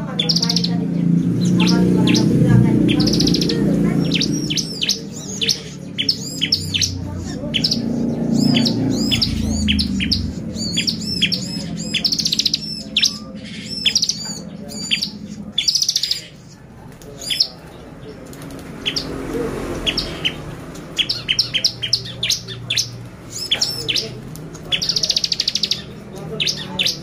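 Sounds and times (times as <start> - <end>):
bird chirping and trilling: 0.0 - 27.0.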